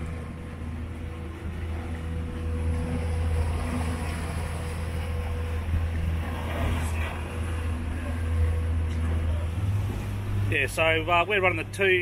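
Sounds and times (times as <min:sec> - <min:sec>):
outboard motor humming: 0:00.0 - 0:12.0
rush of boat wake: 0:00.0 - 0:12.0.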